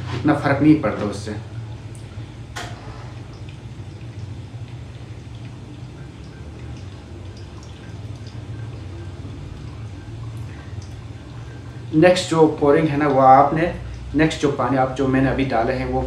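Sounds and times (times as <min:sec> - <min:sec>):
faint drips: 0:00.0 - 0:16.0
low steady hum: 0:00.0 - 0:16.0
water pouring onto coffee: 0:01.8 - 0:15.5.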